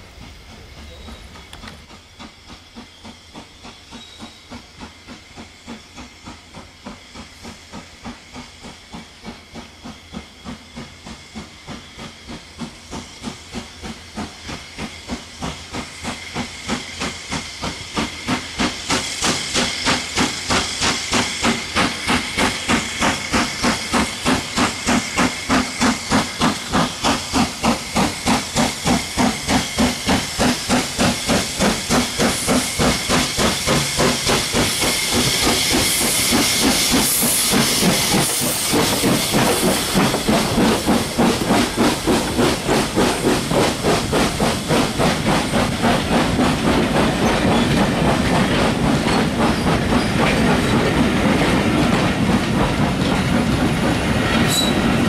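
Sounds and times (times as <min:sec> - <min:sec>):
steam locomotive exhaust chuffs: 0:00.0 - 0:55.0.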